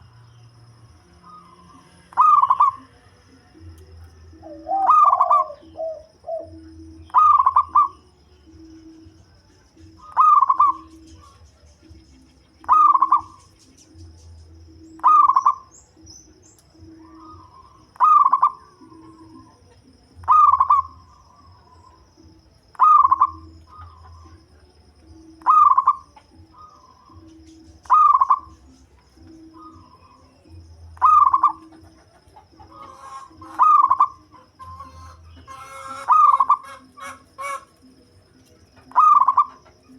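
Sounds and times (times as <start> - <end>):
dove cooing: 1.1 - 39.9.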